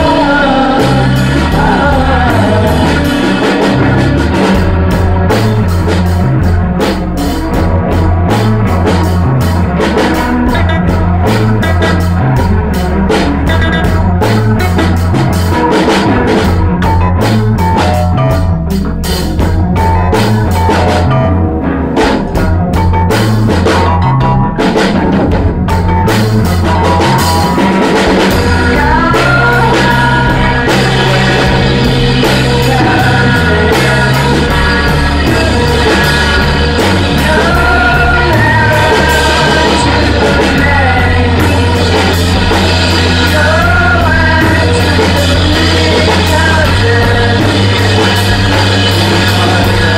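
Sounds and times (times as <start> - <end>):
drum kit: 0.0 - 49.9
rock band jamming: 0.0 - 49.9.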